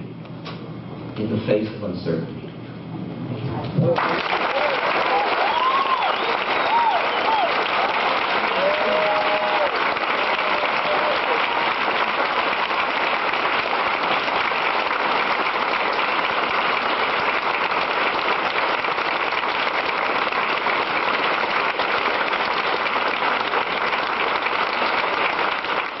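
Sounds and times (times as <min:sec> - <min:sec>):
audience applause: 0:03.8 - 0:26.0.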